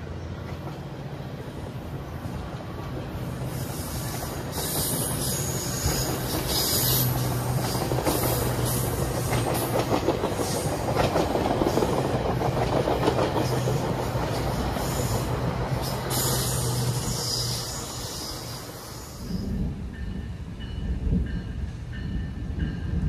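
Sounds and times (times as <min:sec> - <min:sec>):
rail clicks: 0:00.0 - 0:23.0
train wheels rumbling on rails: 0:00.0 - 0:23.0.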